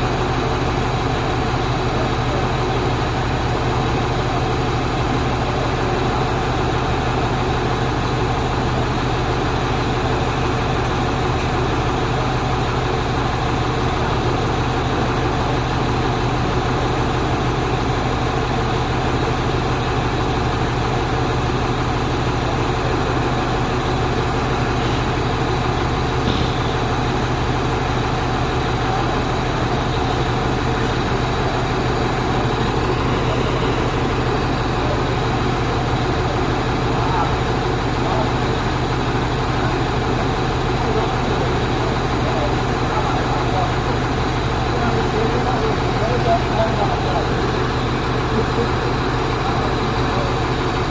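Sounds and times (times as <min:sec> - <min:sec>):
truck engine humming: 0:00.0 - 0:50.9.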